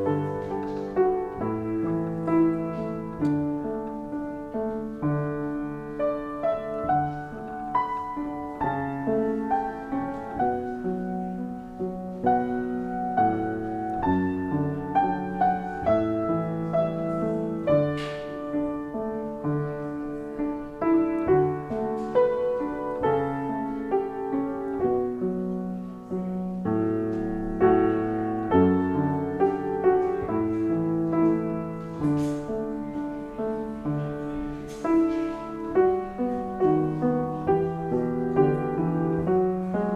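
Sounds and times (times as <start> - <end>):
slow piano music: 0.0 - 39.9.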